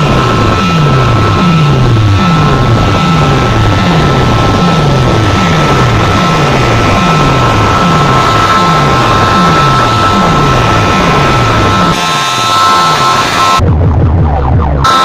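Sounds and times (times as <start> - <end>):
deep bass note sweeping down: 0.0 - 15.0
loud distorted sound system music: 0.0 - 15.0
steady high tones: 0.6 - 13.6.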